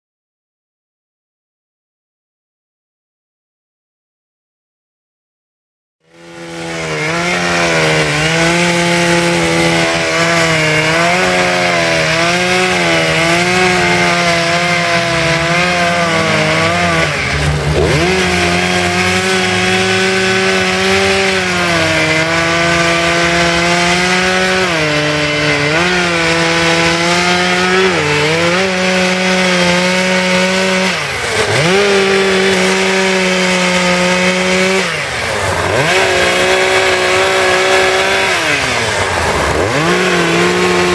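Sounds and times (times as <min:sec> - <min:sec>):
chainsaw carving wood: 0:06.0 - 0:40.9.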